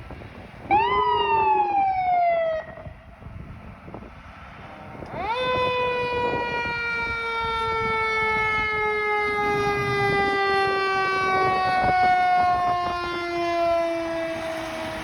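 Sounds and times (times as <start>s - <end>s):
fire truck siren wail: 0.0s - 15.0s.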